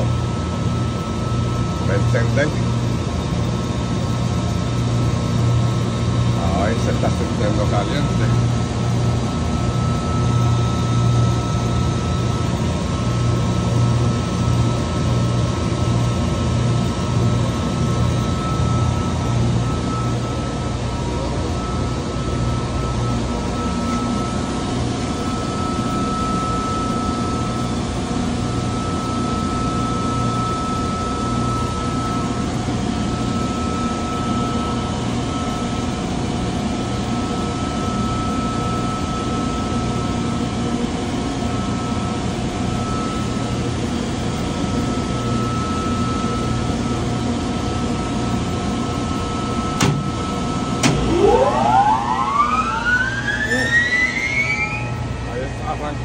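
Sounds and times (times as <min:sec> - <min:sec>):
compressor motor whine: 0:00.0 - 0:56.0
machinery hum: 0:00.0 - 0:56.0.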